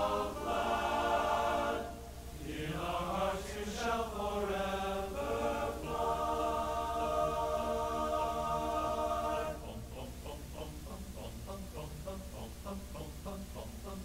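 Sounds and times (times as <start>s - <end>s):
choir singing held chords: 0.0s - 14.0s
steady low hum: 0.0s - 14.0s.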